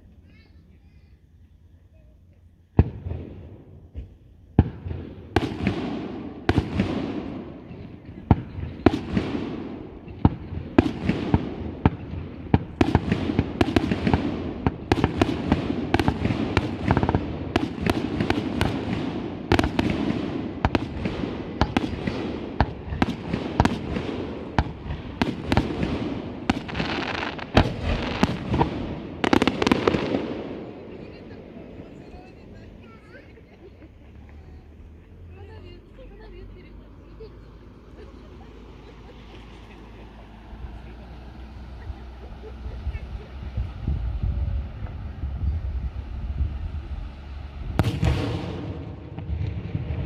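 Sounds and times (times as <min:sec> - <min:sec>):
fireworks bursting: 0:00.0 - 0:50.0
fireworks rumble and crackle: 0:00.0 - 0:50.0.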